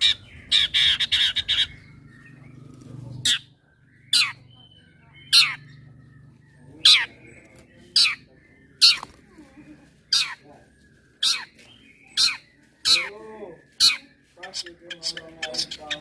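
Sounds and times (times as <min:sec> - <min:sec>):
shrike calling: 0:00.0 - 0:09.3, 0:10.0 - 0:16.0.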